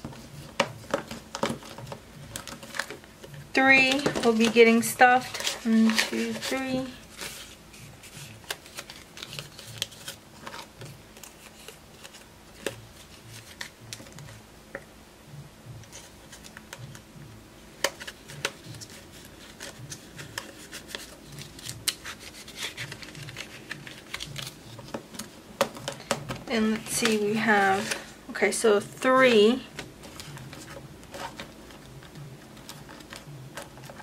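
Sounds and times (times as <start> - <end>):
paper bills rustling: 0.0 - 14.4, 15.8 - 17.0, 17.8 - 28.2, 29.0 - 34.0.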